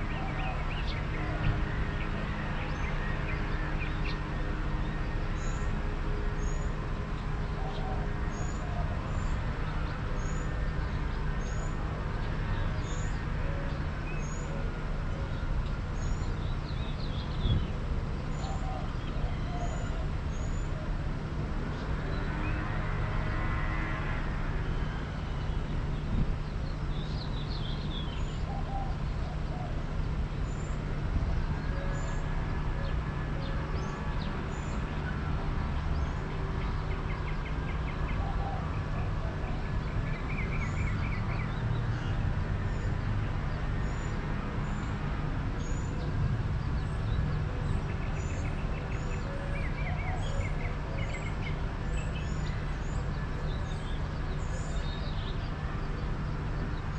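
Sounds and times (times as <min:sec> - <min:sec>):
small birds chirping: 0:00.0 - 0:22.6, 0:24.9 - 0:56.9
low traffic hum: 0:00.0 - 0:56.9
vehicle passing by: 0:00.0 - 0:56.9.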